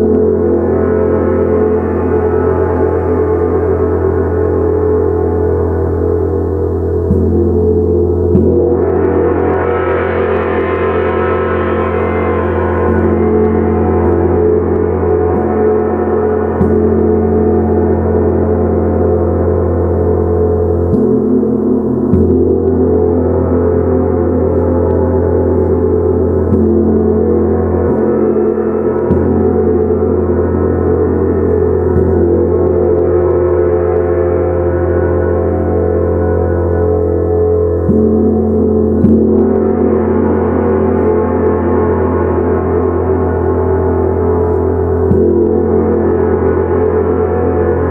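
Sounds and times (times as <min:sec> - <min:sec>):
gong ringing: 0:07.0 - 0:47.9.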